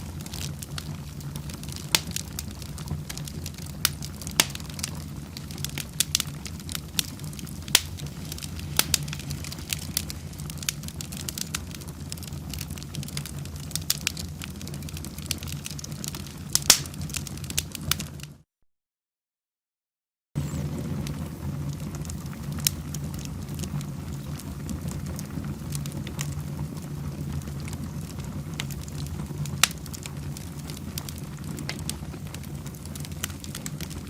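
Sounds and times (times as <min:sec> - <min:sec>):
fireplace fire crackling: 0:00.0 - 0:18.4, 0:20.4 - 0:34.0.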